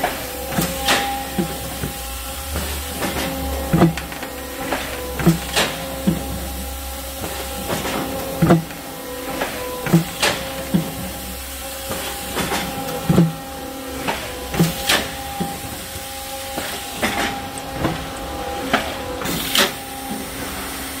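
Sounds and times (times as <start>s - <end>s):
machine hum with hiss: 0.0s - 21.0s.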